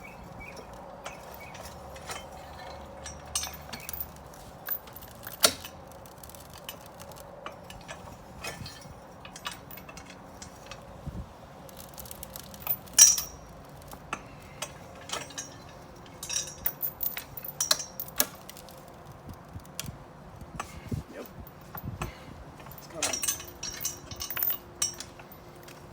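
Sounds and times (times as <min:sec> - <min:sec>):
metallic clinks and knocks: 0:00.2 - 0:10.9, 0:11.7 - 0:18.9, 0:20.6 - 0:25.9.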